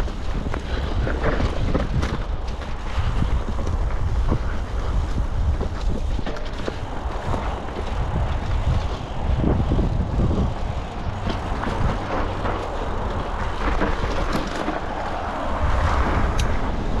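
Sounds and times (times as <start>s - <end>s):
bike rattling over bumps: 0.0s - 17.0s
bike tyres on dirt and gravel: 0.0s - 17.0s
wind on microphone: 0.0s - 17.0s.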